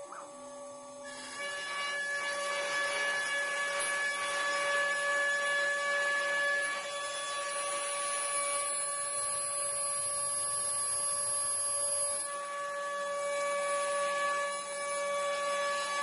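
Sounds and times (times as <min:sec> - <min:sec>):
router spindles whining: 0:00.0 - 0:16.0.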